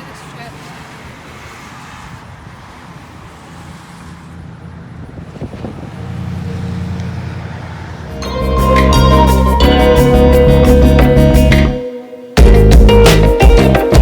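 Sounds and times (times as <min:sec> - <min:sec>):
car and road noise: 0:00.0 - 0:14.0.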